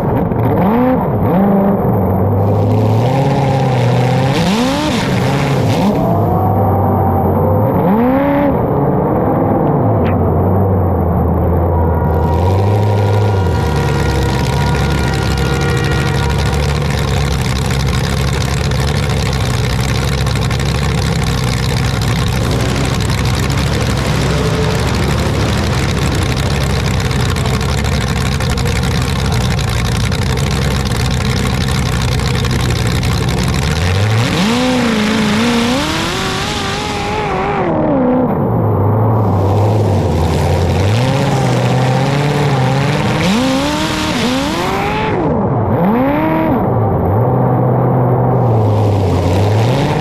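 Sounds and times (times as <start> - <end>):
engine running at high revs: 0.0 - 50.0
higher-pitched engine wavering: 0.0 - 50.0.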